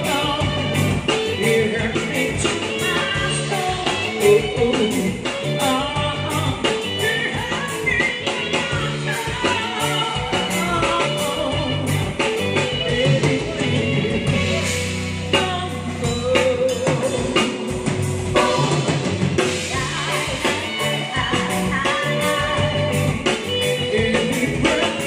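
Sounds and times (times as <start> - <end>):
bass and drum beat: 0.0 - 25.0
electric guitar: 0.0 - 25.0
person singing: 0.0 - 25.0.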